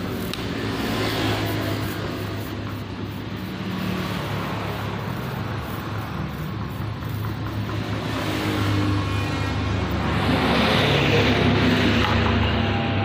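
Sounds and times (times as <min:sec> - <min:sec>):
constant rushing noise: 0:00.0 - 0:13.0.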